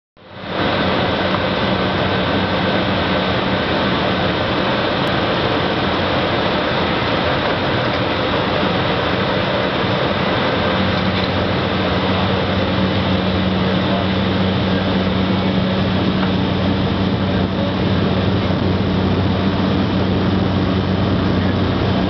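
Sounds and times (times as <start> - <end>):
propeller plane engine drone: 0.2 - 22.0.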